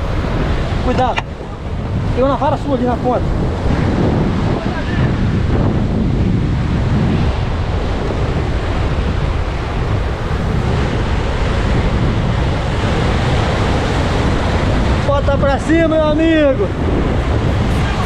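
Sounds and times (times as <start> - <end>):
waves breaking against rocks: 0.0 - 18.0
wind buffeting microphone: 0.0 - 18.0.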